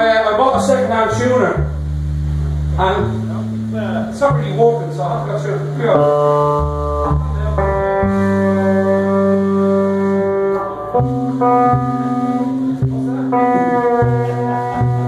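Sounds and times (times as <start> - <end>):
bass line: 0.0 - 15.0
electric guitar solo: 0.0 - 15.0
live rock band: 0.4 - 15.0.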